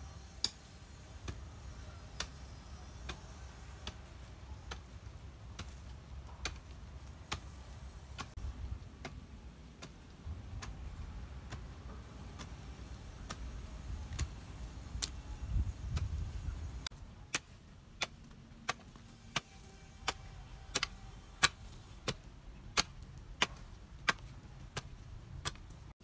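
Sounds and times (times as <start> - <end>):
low steady rumble: 0.0 - 25.9.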